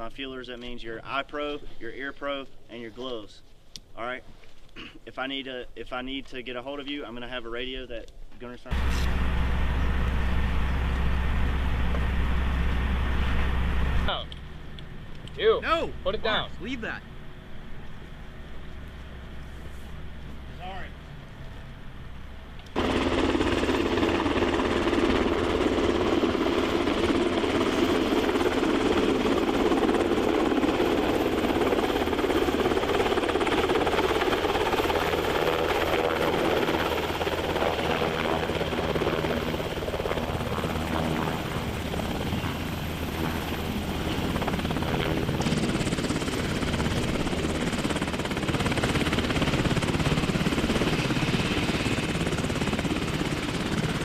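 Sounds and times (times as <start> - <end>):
helicopter rotor and engines: 8.6 - 54.0
high turbine whine: 8.7 - 54.0.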